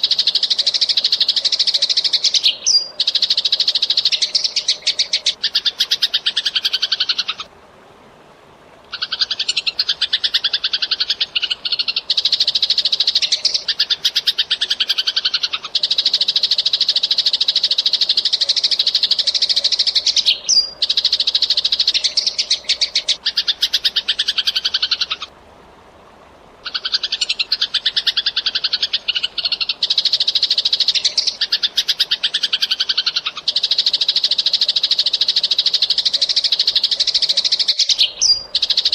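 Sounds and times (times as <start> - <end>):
sparrow chirping: 0.0 - 7.5, 9.0 - 25.3, 26.7 - 38.9.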